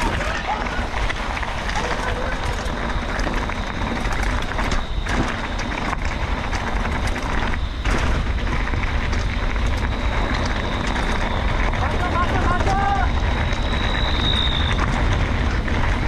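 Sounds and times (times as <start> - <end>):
bicycle clicks and rattles: 0.0 - 16.0
tyres on rough ground: 0.0 - 16.0
wind on microphone: 0.0 - 16.0.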